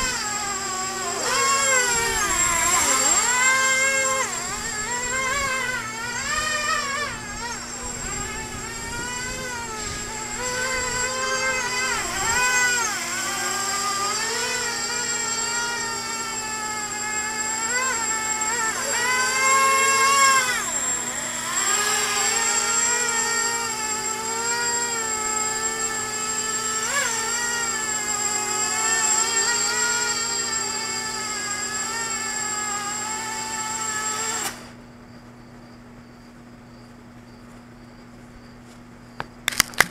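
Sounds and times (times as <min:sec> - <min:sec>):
drone motors buzzing whine: 0:00.0 - 0:39.9.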